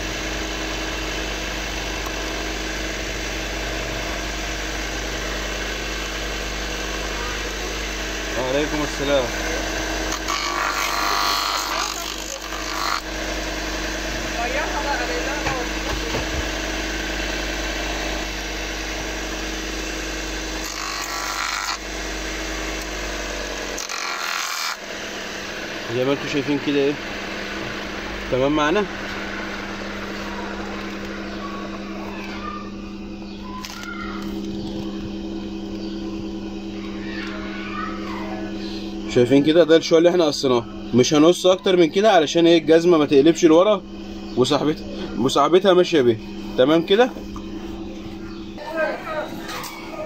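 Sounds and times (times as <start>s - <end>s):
grinding stone motor humming: 0.0s - 50.0s.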